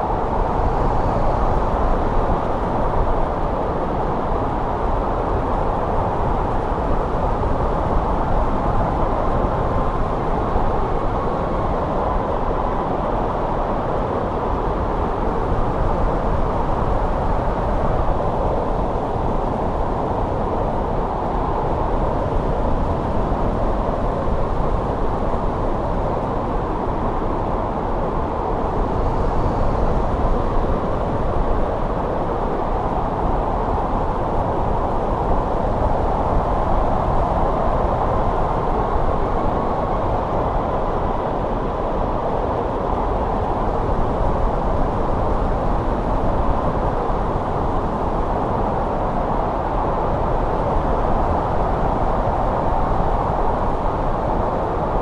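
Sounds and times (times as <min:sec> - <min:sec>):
winter wind rushing: 0:00.0 - 0:55.0.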